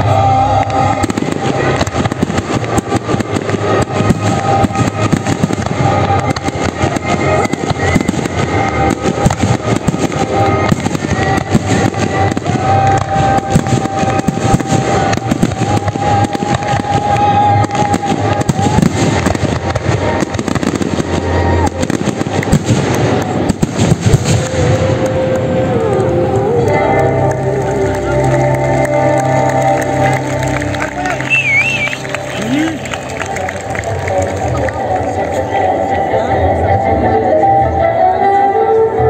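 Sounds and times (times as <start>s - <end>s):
crackling firework stars: 0.0s - 35.8s.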